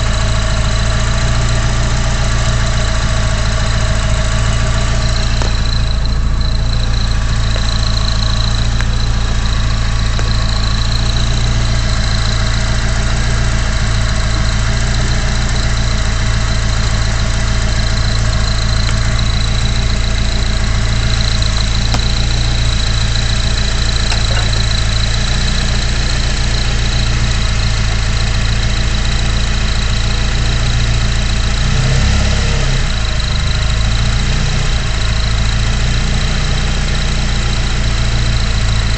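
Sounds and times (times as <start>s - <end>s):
car engine idling: 0.0s - 38.9s
turbocharger whine: 0.0s - 38.9s.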